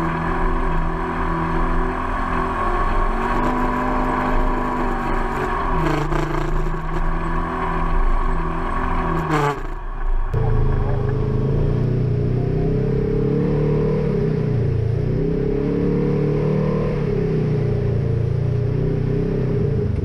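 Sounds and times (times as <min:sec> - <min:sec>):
off-road vehicle engine running: 0:00.0 - 0:20.0.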